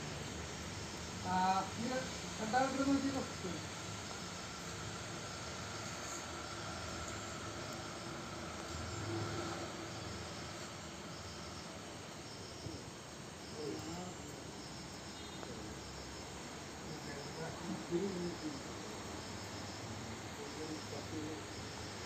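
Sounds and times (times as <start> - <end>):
insects chirping in a trill: 0.0 - 22.0.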